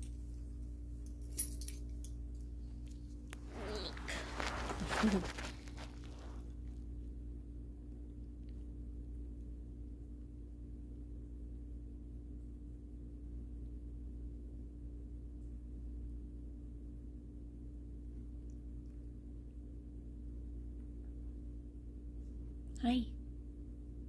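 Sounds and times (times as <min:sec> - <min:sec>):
constant mid-low tone: 0:00.0 - 0:24.0
steady low hum: 0:00.0 - 0:24.0.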